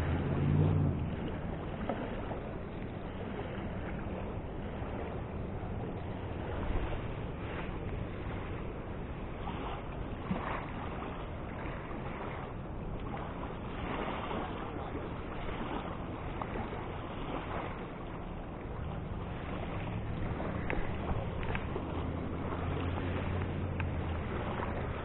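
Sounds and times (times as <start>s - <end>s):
river water: 0.0s - 25.0s
wind on microphone: 0.0s - 25.0s.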